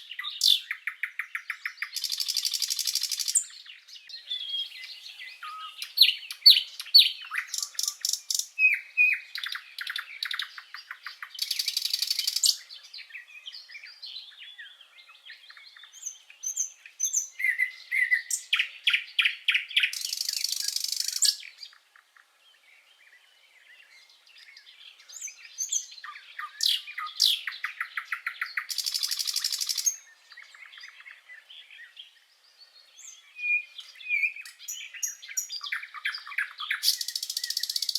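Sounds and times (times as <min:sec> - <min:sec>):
nightingale singing: 0:00.0 - 0:37.9.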